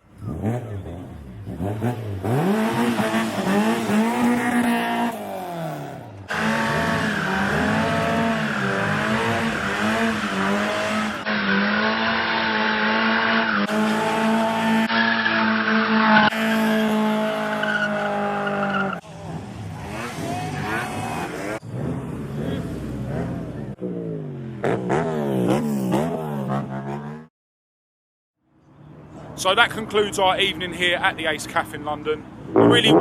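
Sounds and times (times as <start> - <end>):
car engines revving hard: 0.0 - 27.3, 32.3 - 33.0.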